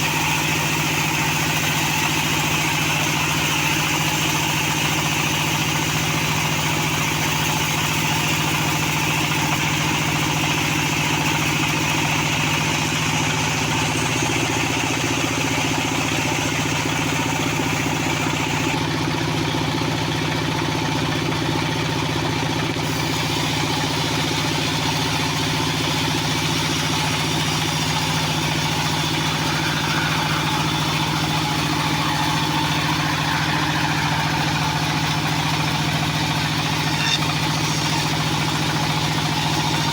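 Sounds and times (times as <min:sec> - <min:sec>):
band sawmill droning: 0:00.0 - 0:39.9.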